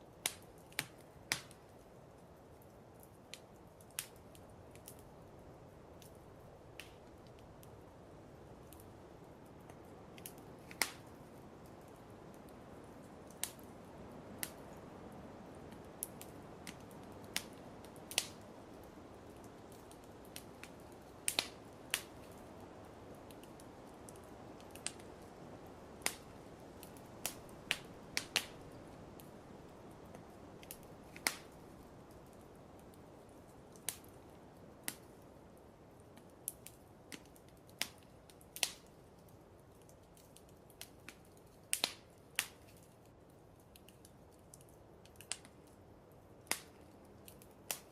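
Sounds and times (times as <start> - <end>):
low hiss: 0.0 - 47.9
wood fire crackling: 0.0 - 47.9.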